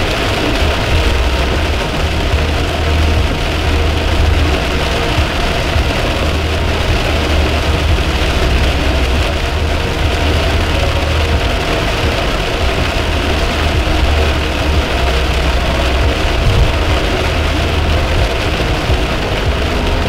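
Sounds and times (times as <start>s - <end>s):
car engine and road rumble: 0.0s - 20.0s
rain hissing on windscreen: 0.0s - 20.0s.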